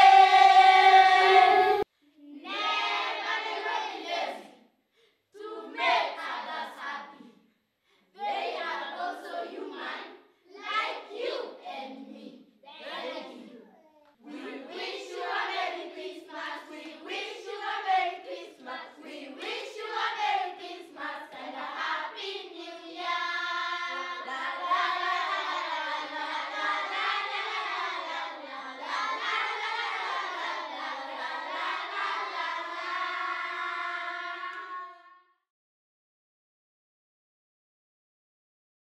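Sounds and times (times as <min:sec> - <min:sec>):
children singing: 0:00.0 - 0:04.5, 0:05.4 - 0:07.3, 0:08.2 - 0:35.2.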